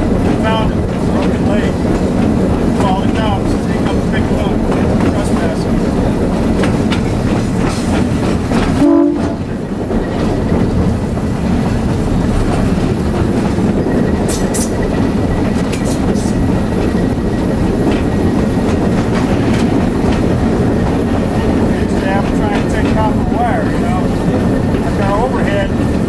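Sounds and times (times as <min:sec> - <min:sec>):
diesel locomotive engine rumble: 0:00.0 - 0:26.0
wheels clicking over rails: 0:00.0 - 0:26.0.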